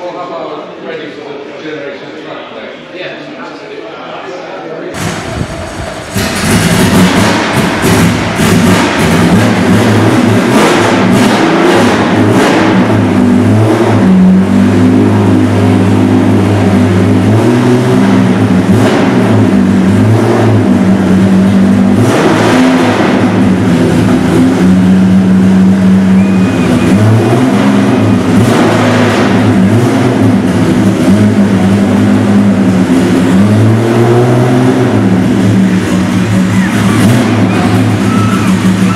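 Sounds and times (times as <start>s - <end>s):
racing car engine idling with blips: 4.9s - 38.9s.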